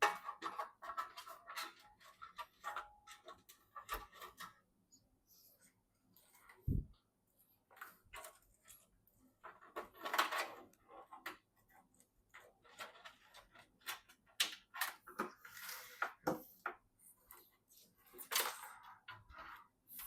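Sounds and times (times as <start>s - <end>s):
plastic parts rustling and scraping: 0.0s - 4.8s, 5.5s - 20.0s.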